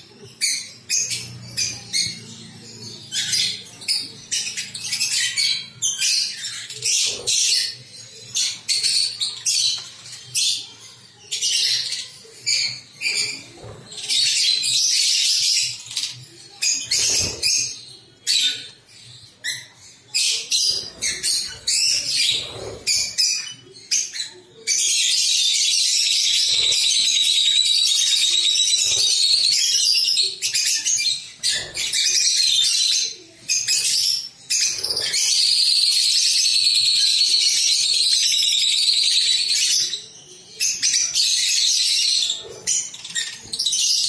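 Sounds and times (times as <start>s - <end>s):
lovebirds chirping and squawking: 0.0s - 44.0s.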